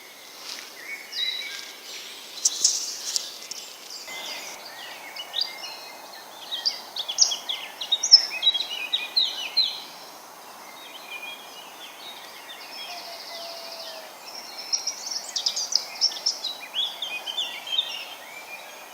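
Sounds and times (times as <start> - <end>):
steady background hiss: 0.0 - 18.9
wild birds singing and chirping: 0.0 - 18.9.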